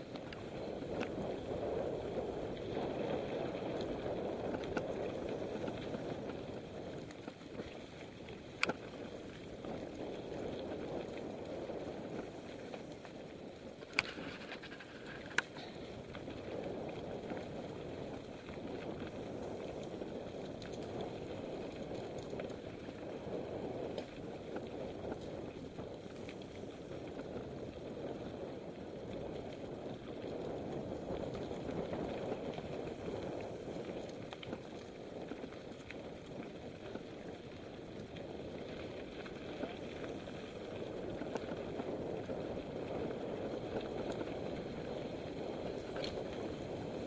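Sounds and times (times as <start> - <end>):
bike tyre and trail noise: 0.0 - 47.0.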